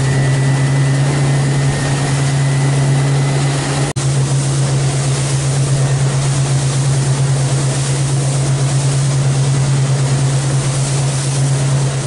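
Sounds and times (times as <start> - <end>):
motorboat engine drone: 0.0 - 12.0
rush of wind and water: 0.0 - 12.0.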